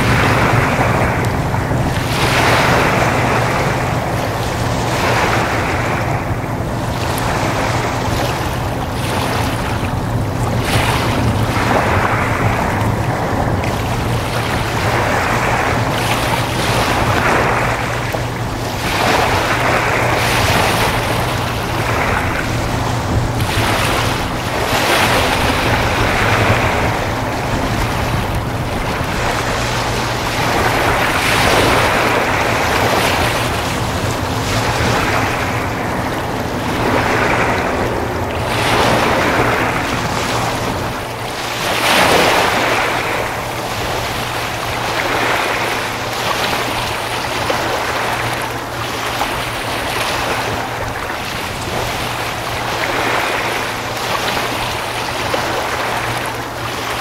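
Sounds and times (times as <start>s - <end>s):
low engine hum: 0.0s - 57.0s
waves washing and splashing: 0.0s - 57.0s
wind buffeting microphone: 0.0s - 57.0s.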